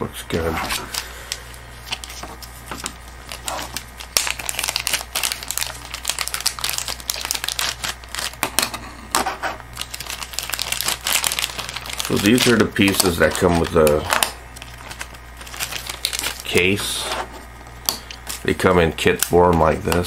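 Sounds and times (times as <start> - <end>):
plastic bag crinkling: 0.4 - 8.9, 9.6 - 20.0.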